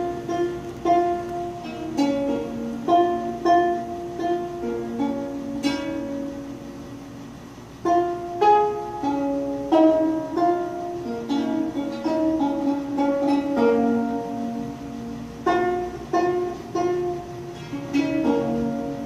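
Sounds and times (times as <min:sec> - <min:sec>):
zither plucked notes: 0:00.0 - 0:19.0.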